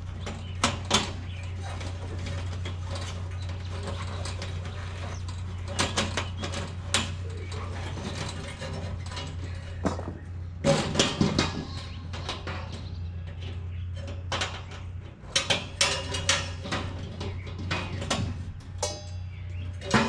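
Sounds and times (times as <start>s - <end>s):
metal bolts and panels clinking: 0.0s - 20.0s.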